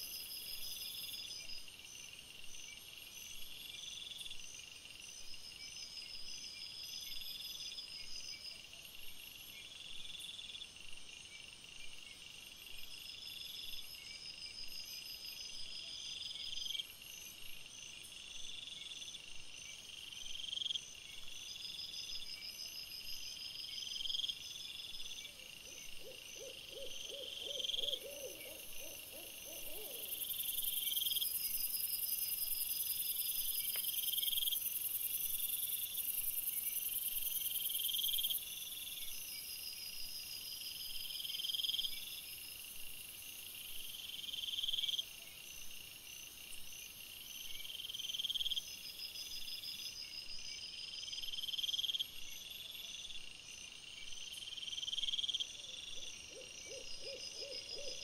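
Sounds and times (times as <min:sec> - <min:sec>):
night insects chirping: 0:00.0 - 0:58.0.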